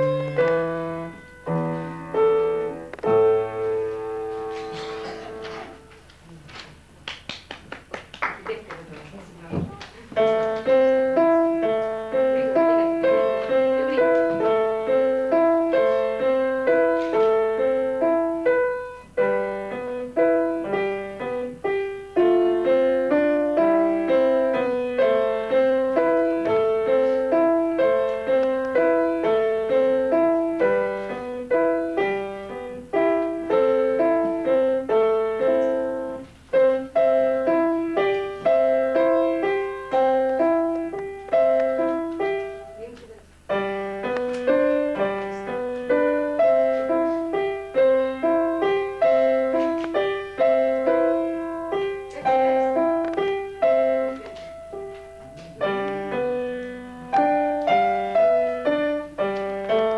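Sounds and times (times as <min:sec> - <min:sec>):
acoustic piano piece: 0:00.0 - 0:59.9.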